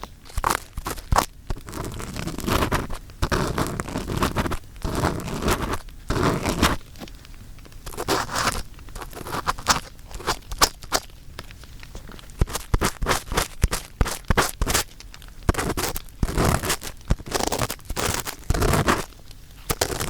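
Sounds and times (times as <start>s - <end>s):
scraping and rustling in microphone ear: 0.0s - 7.2s, 7.8s - 11.0s, 11.9s - 14.9s, 15.5s - 20.0s.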